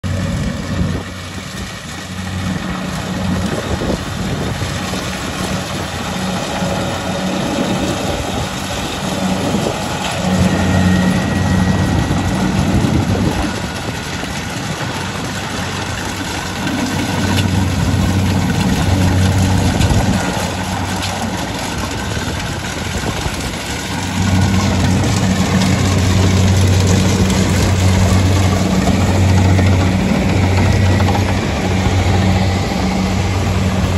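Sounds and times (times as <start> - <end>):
harvesting machine engine humming: 0.0 - 33.9.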